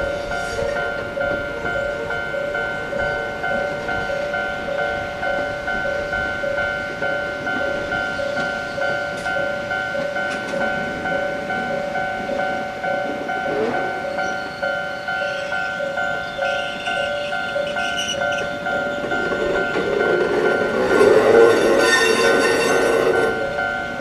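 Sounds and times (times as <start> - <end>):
level-crossing warning bell: 0.0 - 24.0
train running noise: 0.0 - 24.0.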